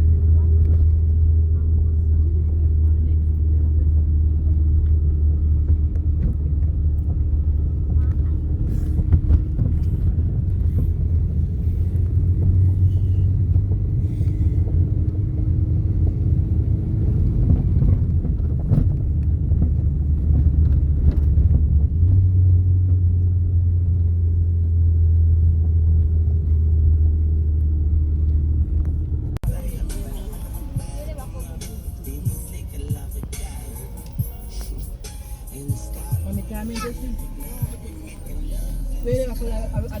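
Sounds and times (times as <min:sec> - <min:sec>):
car rumbling on the move: 0:00.0 - 0:40.0.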